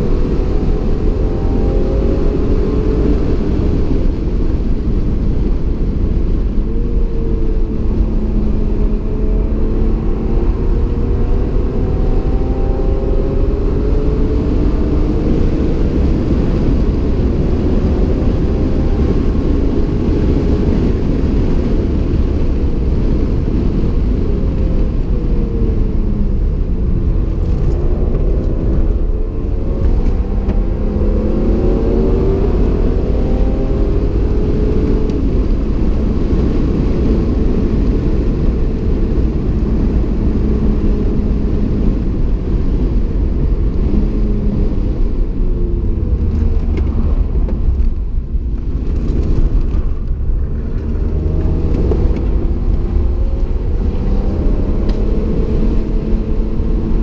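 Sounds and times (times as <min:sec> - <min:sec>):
car engine accelerating and shifting: 0:00.0 - 0:57.0
road and wind noise: 0:00.0 - 0:57.0.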